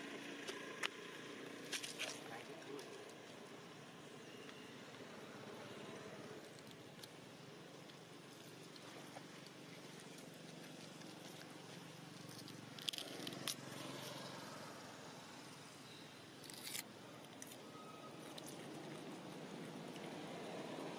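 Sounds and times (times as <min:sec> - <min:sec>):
faint outdoor hiss: 0:00.0 - 0:20.9.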